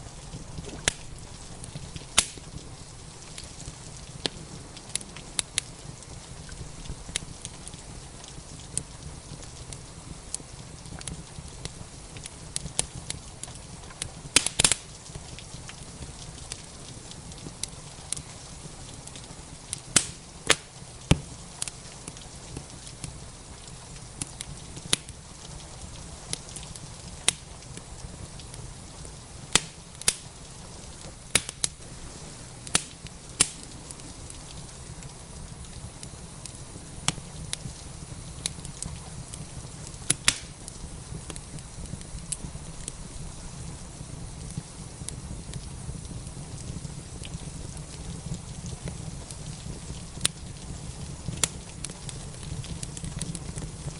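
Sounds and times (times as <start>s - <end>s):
rain hissing: 0.0s - 53.9s
wood fire crackling and popping: 0.0s - 53.9s.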